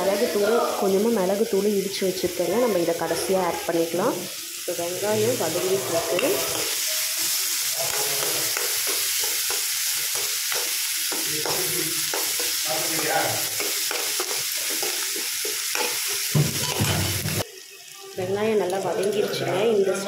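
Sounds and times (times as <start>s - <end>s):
shallots sizzling in hot oil: 0.0s - 20.0s.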